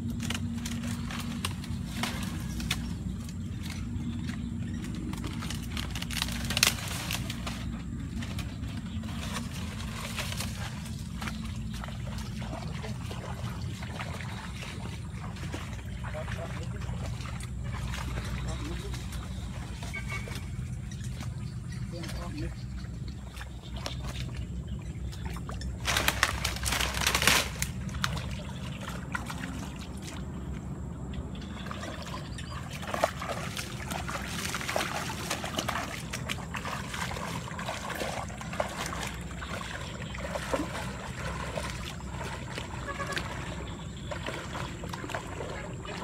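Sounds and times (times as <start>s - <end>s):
footsteps wading through water: 0.0s - 46.0s
steady low rumble: 0.0s - 46.0s.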